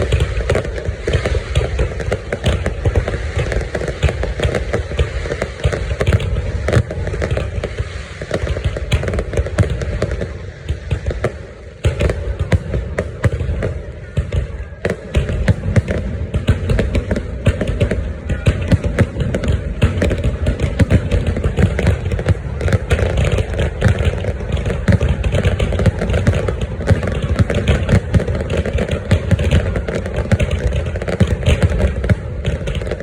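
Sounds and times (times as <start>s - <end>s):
fireworks bangs and pops: 0.0s - 33.0s.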